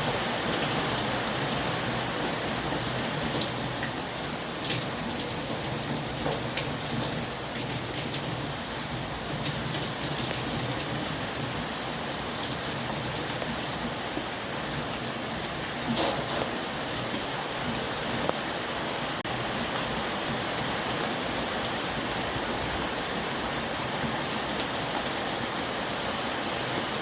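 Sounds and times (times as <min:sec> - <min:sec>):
heavy rain hiss: 0:00.0 - 0:27.0.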